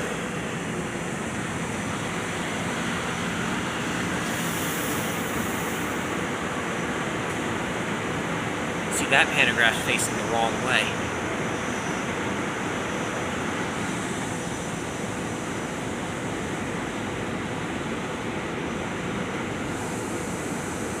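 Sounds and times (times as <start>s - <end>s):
electric train rumbling past: 0.0s - 21.0s.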